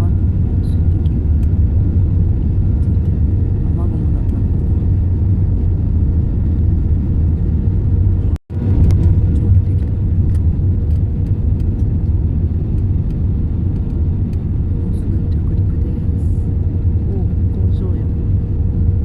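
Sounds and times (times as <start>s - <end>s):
jet airliner cabin rumble: 0.0s - 19.0s.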